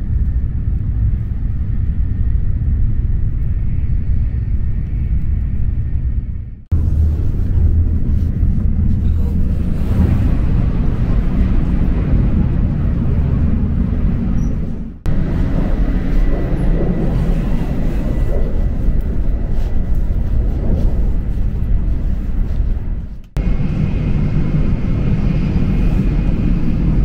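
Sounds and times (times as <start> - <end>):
train rumbling inside carriage: 0.0 - 27.0.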